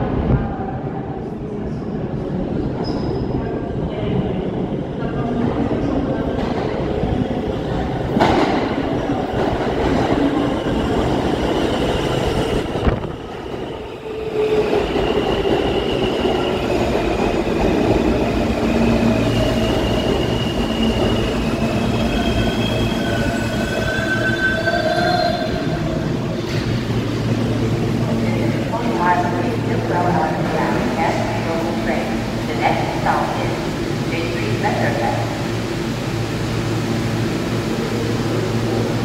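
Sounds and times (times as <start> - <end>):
subway train rumbling on rails: 0.0 - 39.0.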